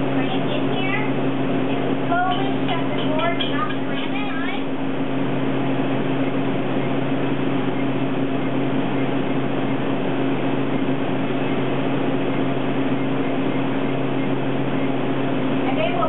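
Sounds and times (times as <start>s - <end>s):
low electrical hum: 0.0s - 16.0s
machinery whirring: 0.0s - 16.0s.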